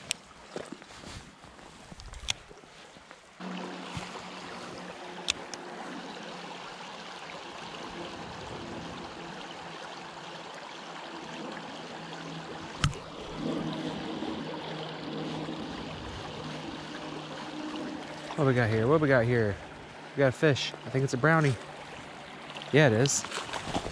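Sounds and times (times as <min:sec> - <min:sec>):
creek water running: 0:00.0 - 0:23.9.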